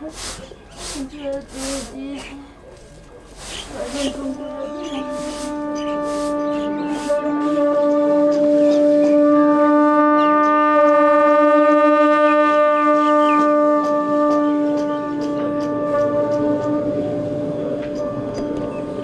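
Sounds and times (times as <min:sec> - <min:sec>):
conch shell trumpets low note: 0:03.3 - 0:19.0.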